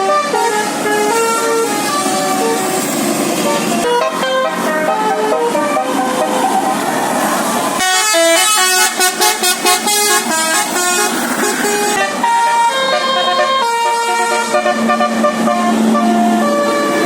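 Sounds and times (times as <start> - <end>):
musical air horn playing a tune: 0.0 - 6.6, 7.8 - 17.0.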